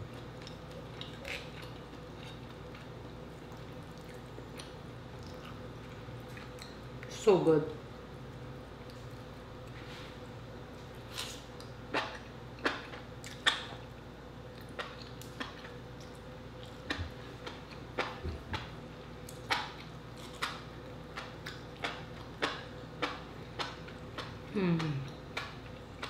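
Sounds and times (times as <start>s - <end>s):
chewing with lip smacks: 0.0s - 7.1s, 10.8s - 26.0s
faint steady hum: 0.0s - 26.0s.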